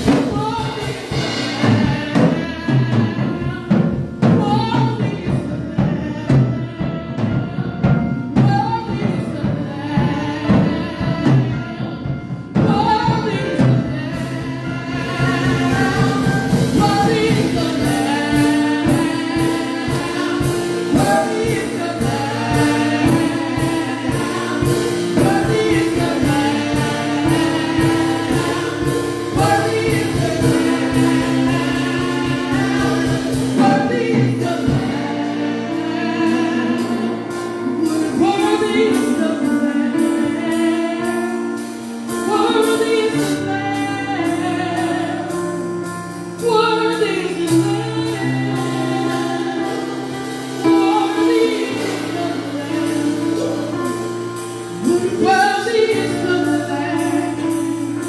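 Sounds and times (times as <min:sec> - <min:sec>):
group of voices singing: 0:00.0 - 0:41.4, 0:46.9 - 0:58.0
keyboard chords: 0:00.0 - 0:58.0
steady drums: 0:00.0 - 0:58.0.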